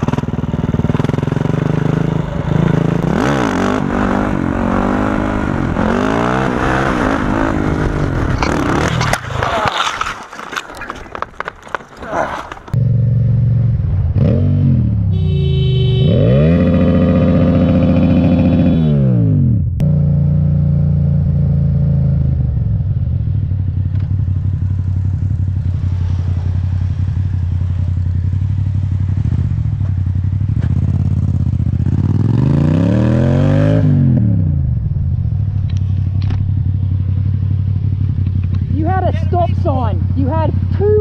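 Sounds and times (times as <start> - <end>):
motorcycle engine running: 0.0 - 9.2, 15.0 - 41.0.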